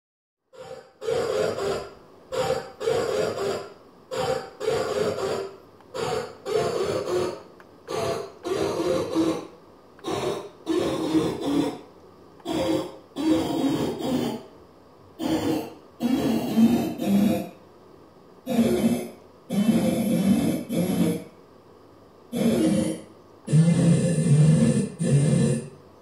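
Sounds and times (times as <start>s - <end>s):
electronic dog bark: 0.5s - 14.5s, 15.2s - 17.5s, 18.5s - 21.3s, 22.3s - 25.7s.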